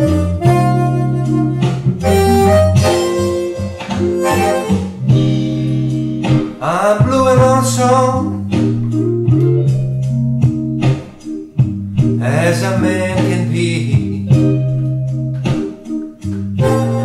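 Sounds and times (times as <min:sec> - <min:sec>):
backing band with guitar: 0:00.0 - 0:17.0
blues harmonica: 0:00.0 - 0:17.0.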